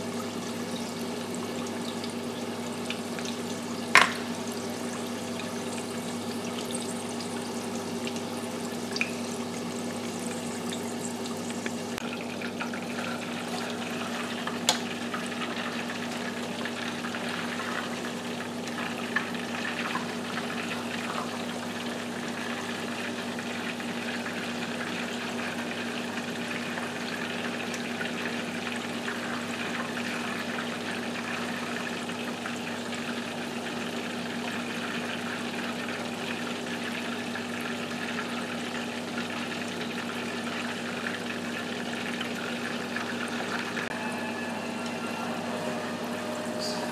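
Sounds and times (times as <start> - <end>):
wings sizzling in hot oil: 0.0 - 46.9.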